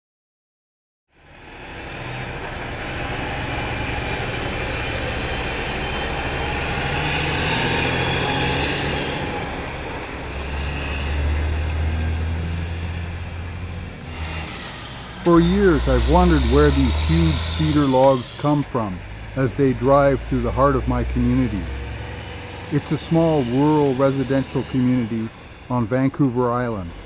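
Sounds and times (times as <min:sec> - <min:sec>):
diesel trucks driving past: 0:01.1 - 0:27.0.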